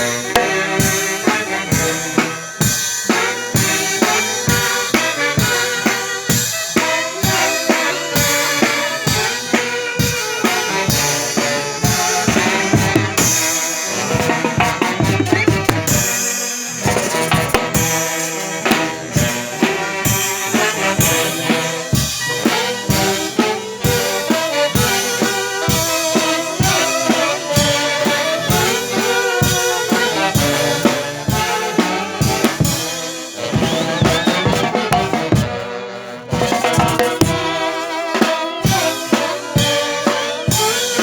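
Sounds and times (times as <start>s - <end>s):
brass horns playing: 0.0s - 41.0s
drum kit steady beat: 0.0s - 41.0s.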